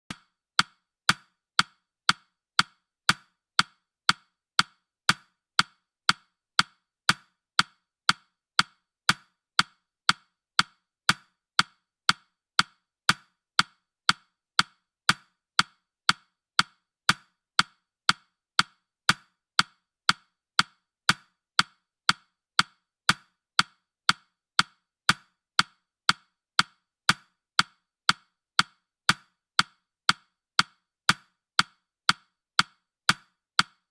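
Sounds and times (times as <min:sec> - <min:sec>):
timer ticking: 0:00.1 - 0:33.9.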